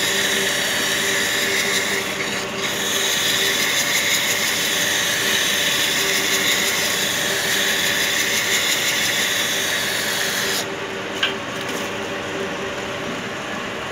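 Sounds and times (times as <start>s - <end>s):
machine humming and hissing: 0.0s - 13.9s.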